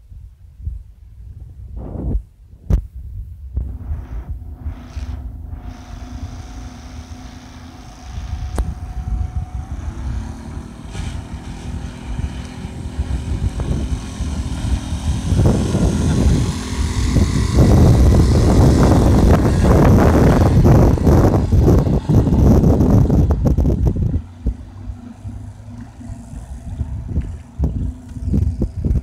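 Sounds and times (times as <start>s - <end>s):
outboard motor droning: 3.6s - 29.0s.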